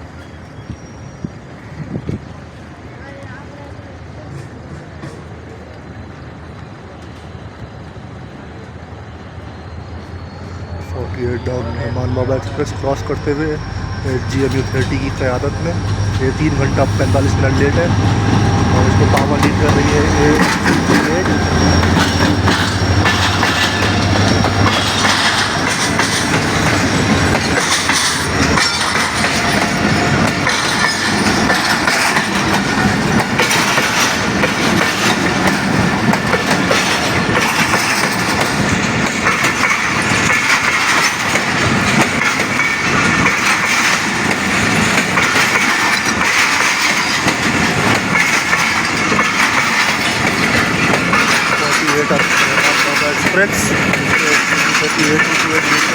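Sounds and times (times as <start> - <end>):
train wheels clacking on rails: 10.0 - 55.9.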